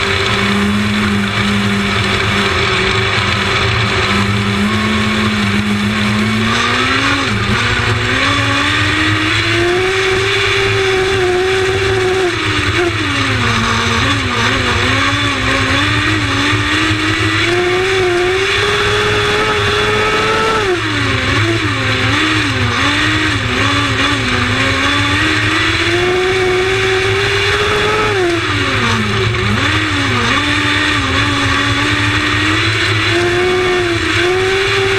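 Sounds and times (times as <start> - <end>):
race car engine revving: 0.0 - 34.9
race car engines droning: 0.0 - 34.9.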